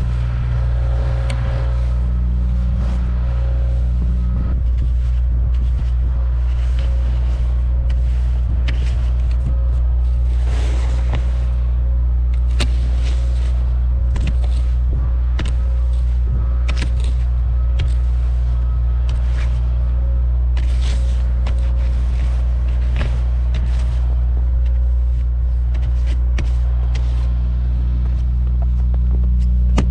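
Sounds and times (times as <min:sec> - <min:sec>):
car engine and tyres droning: 0:00.0 - 0:29.9
clicks and knocks from road: 0:00.0 - 0:29.9.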